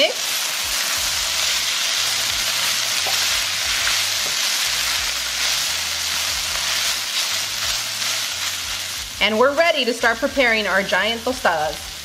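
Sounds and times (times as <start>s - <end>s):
chicken sizzling in a skillet: 0.0s - 12.0s.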